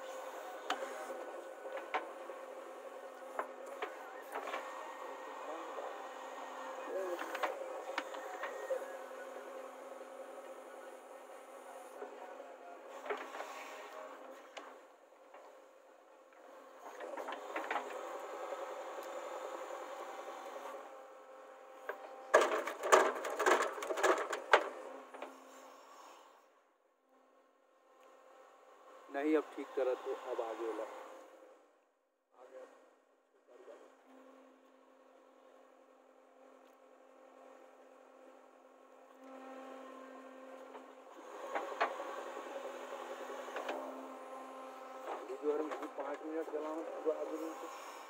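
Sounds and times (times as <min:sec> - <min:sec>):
machine engine hum: 0:00.0 - 0:26.4, 0:27.1 - 0:31.7, 0:32.4 - 0:48.0.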